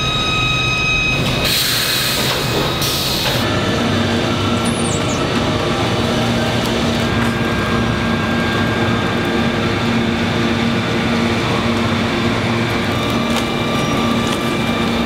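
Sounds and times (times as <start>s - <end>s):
industrial machinery hum: 0.0s - 15.0s.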